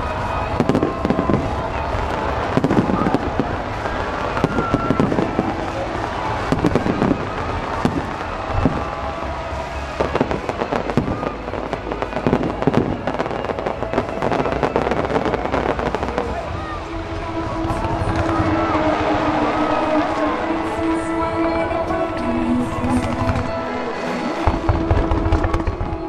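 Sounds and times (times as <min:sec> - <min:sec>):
continuous rumble: 0:00.0 - 0:26.0
fireworks bursting: 0:00.0 - 0:26.0.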